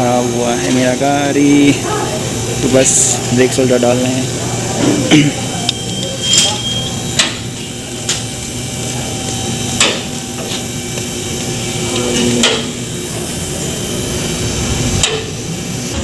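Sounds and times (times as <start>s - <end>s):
workshop hum: 0.0s - 16.0s.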